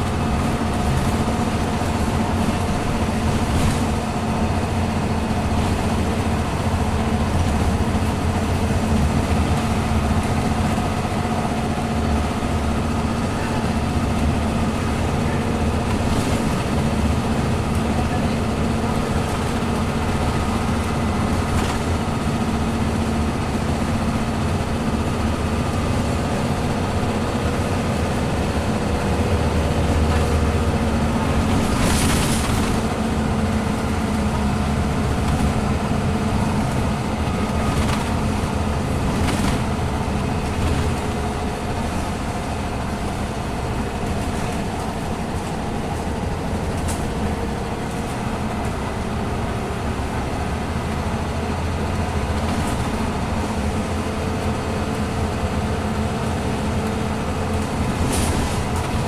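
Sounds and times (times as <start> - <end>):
diesel bus engine running: 0.0 - 59.0
road and tyre noise: 0.0 - 59.0.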